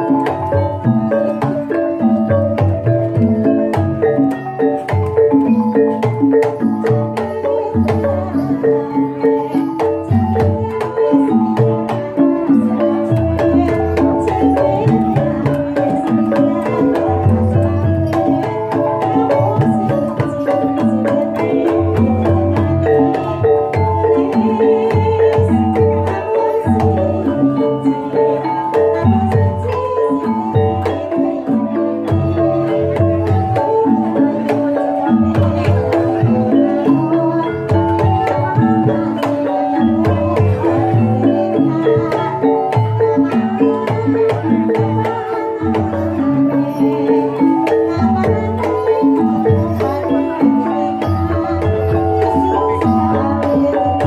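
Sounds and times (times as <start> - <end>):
gamelan mallet instruments: 0.0 - 54.0
hand drum strokes: 0.0 - 54.0.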